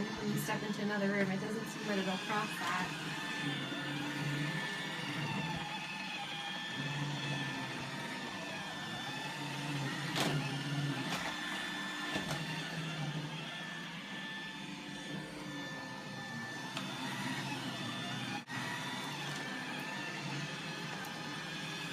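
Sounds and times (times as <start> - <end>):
robot vacuum running: 0.0 - 21.9.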